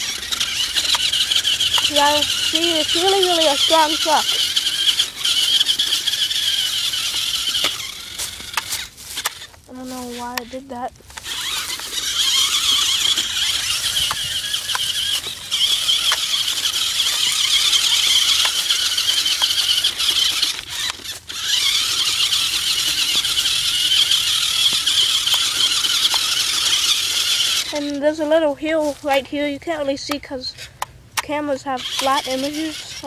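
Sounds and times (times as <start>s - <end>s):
toy truck electric motor whining: 0.0s - 30.8s, 31.4s - 33.0s.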